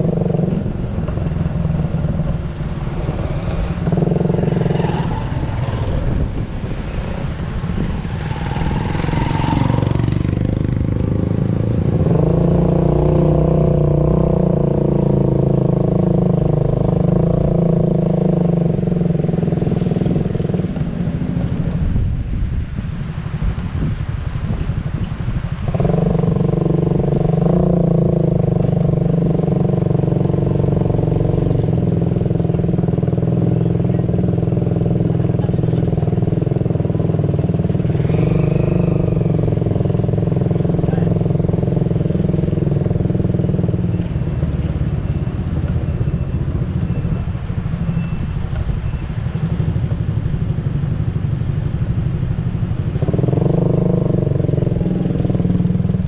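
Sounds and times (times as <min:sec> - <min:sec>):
vehicle engine running: 0:00.0 - 0:22.4, 0:25.2 - 0:56.0.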